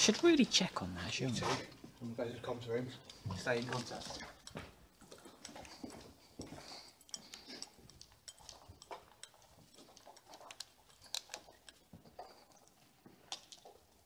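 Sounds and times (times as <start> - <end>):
footsteps clicking and tapping: 1.5 - 14.0.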